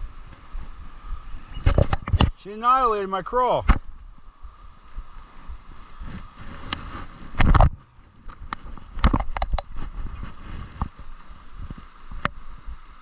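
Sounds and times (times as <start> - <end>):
wind rumbling on microphone: 0.0 - 2.5, 3.6 - 13.0.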